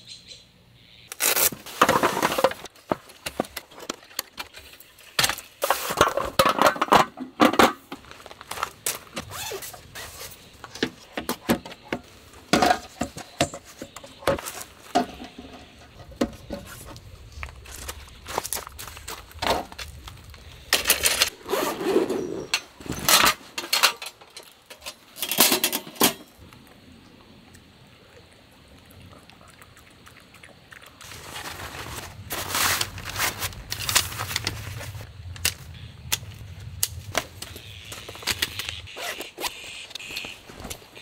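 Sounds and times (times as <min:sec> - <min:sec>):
camping gear being handled: 0:01.1 - 0:26.4, 0:31.0 - 0:41.0.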